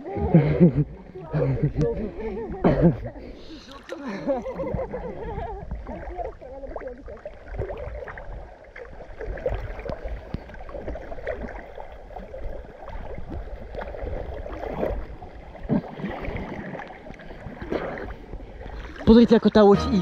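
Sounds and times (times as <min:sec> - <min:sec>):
sea water sloshing and splashing: 0:00.0 - 0:19.8.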